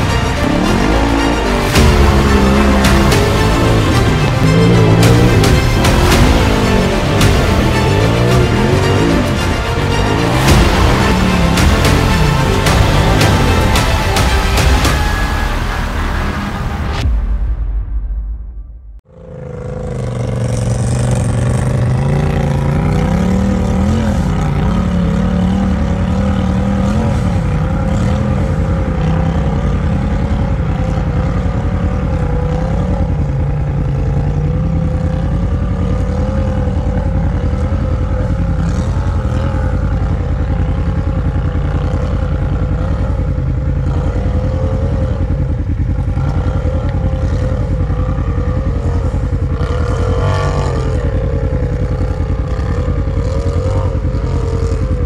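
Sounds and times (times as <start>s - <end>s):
engine running at low revs: 0.0s - 55.0s.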